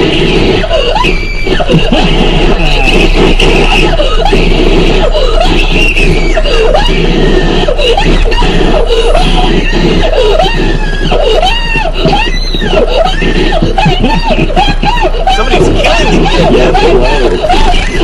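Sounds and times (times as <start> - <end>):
steady low hum: 0.0 - 18.0
child screaming excitedly: 0.7 - 18.0.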